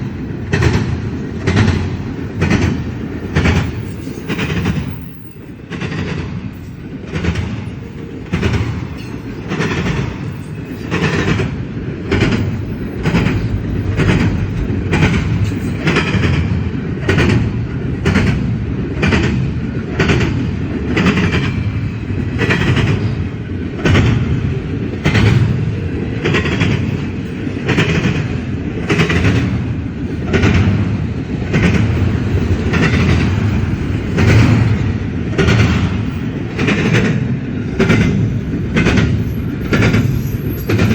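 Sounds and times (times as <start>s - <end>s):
freight train rumble: 0.0s - 40.9s
train wheels clicking over rail joints: 0.0s - 40.9s.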